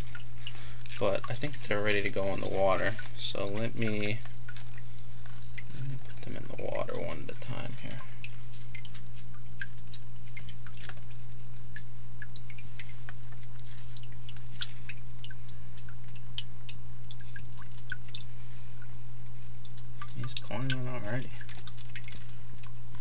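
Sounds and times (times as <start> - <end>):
aquarium equipment humming: 0.0 - 23.0
water drips and clicks: 0.0 - 23.0.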